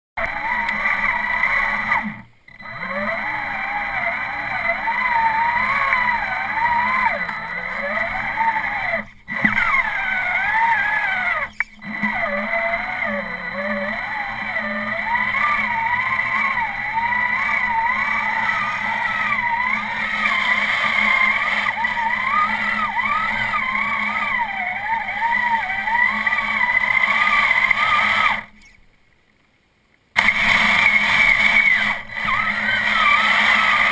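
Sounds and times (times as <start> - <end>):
toy truck driving through water: 0.2 - 28.6, 30.2 - 33.9
electric motor whining: 0.2 - 28.8, 30.2 - 33.9.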